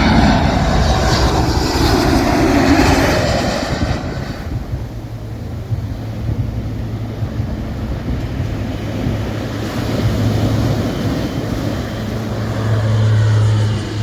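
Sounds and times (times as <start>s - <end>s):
low rumble: 0.0s - 14.0s
surf breaking on beach: 0.0s - 14.0s
wind buffeting microphone: 0.0s - 14.0s.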